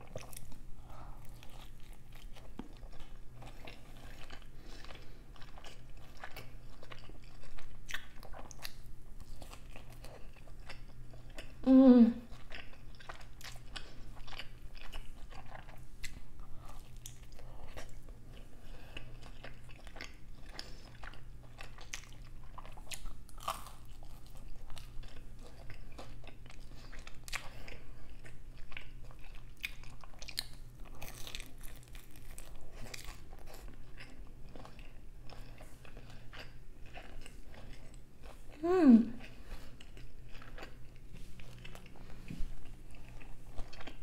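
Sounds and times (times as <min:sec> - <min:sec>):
close chewing and crunching: 0:00.0 - 0:11.6, 0:12.2 - 0:44.0
steady low hum: 0:00.0 - 0:44.0.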